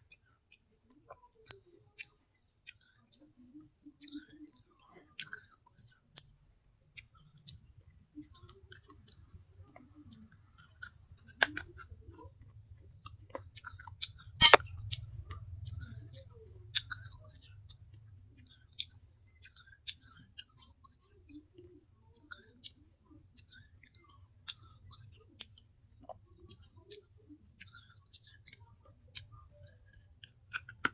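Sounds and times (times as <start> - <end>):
chewing and crunching clay: 0.0 - 30.9.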